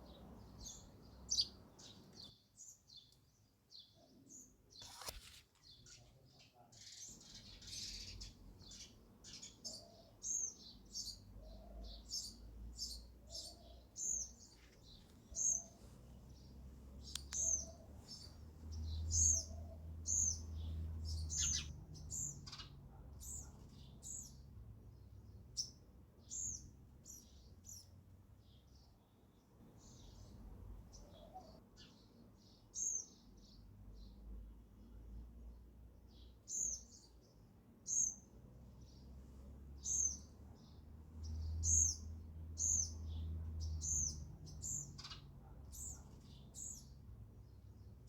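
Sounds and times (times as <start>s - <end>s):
sparrows chirping: 0.0s - 48.0s.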